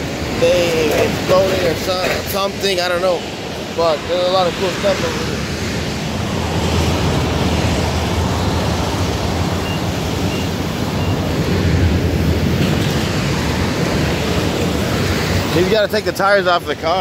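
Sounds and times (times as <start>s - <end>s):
wind on microphone: 0.0s - 16.1s.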